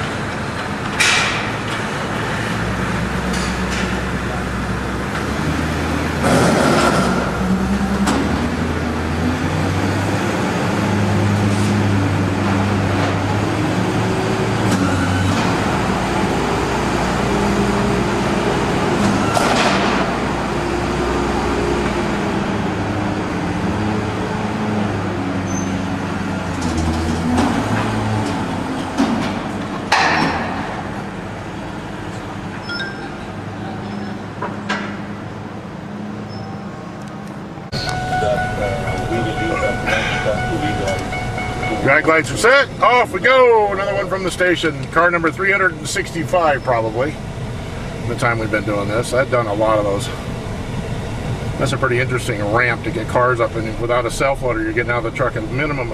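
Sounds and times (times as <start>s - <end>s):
truck engine running: 0.0s - 35.9s, 37.4s - 55.9s.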